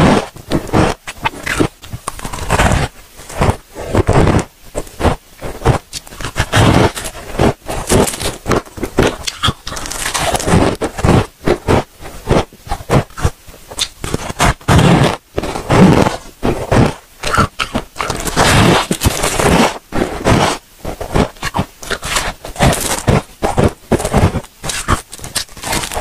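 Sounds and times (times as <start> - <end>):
crunching frost chewing: 0.0 - 26.0.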